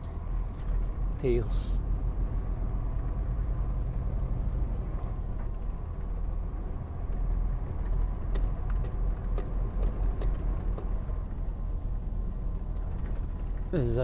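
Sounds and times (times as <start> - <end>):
cab rattling and clicking: 0.0 - 14.0
truck engine and tyres rumbling: 0.0 - 14.0.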